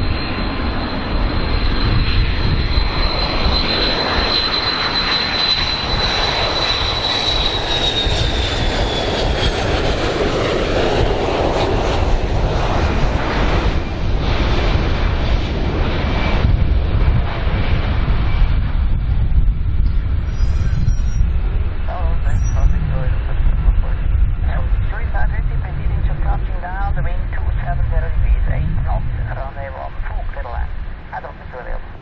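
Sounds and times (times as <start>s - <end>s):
jet engine roar and whine: 0.0s - 32.0s.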